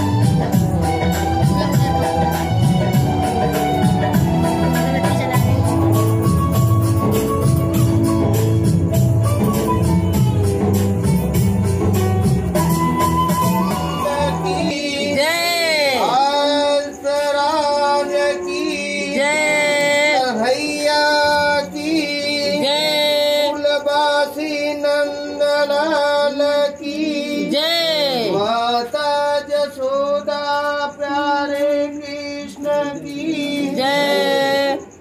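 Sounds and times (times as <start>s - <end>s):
person singing with accompaniment: 0.0s - 35.0s.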